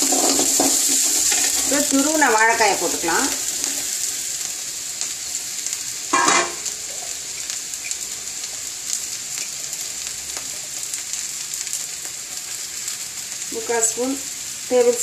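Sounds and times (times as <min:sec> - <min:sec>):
oil sizzling in pan: 0:00.0 - 0:15.0.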